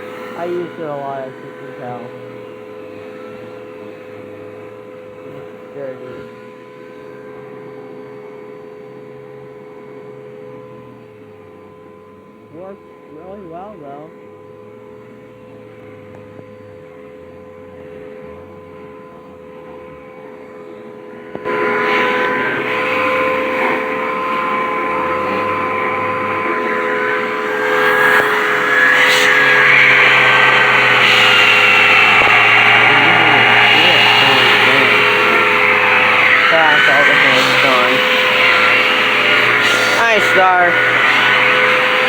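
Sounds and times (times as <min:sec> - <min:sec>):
vacuum cleaner motor: 0:00.0 - 0:42.0.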